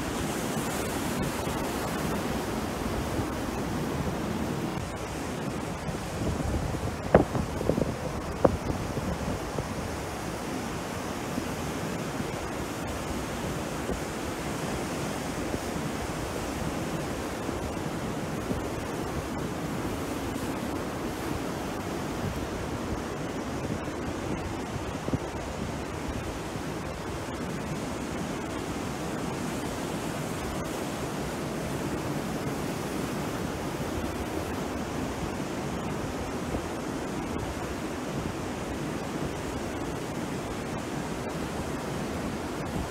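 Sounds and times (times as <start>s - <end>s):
sea surf washing onto beach: 0.0s - 42.9s.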